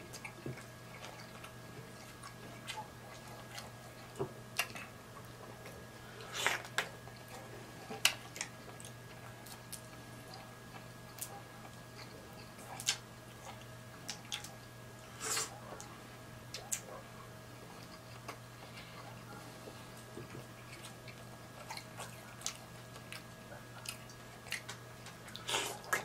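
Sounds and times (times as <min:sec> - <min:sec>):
faint steady hum: 0:00.0 - 0:26.0
wet chewing and lip smacks: 0:00.1 - 0:14.7, 0:16.5 - 0:17.0, 0:20.0 - 0:26.0.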